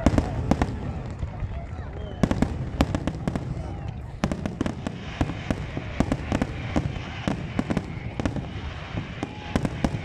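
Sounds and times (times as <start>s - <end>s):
fireworks crackling and banging: 0.0s - 10.0s
low rumble of fireworks bursts: 0.0s - 10.0s.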